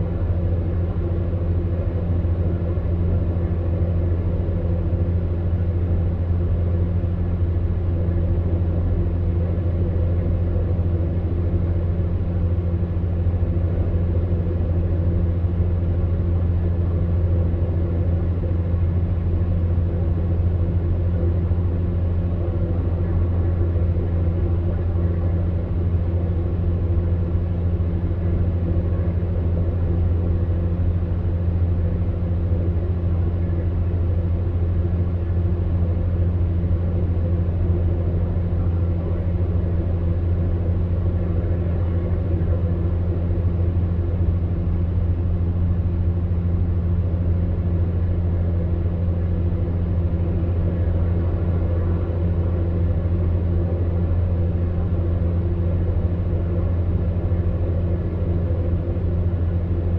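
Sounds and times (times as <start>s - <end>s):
electric fan heater humming: 0.0s - 59.9s.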